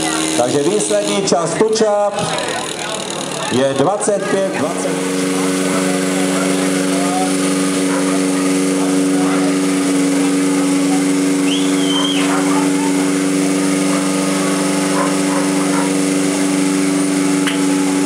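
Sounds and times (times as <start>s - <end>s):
small petrol engine idling: 0.0s - 18.0s.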